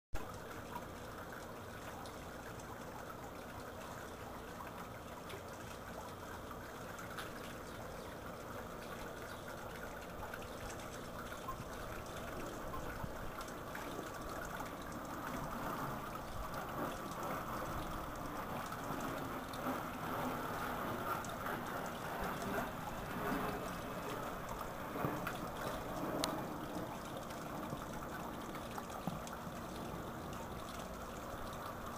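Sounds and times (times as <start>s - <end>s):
fountain water trickling and splashing: 0.2s - 31.9s.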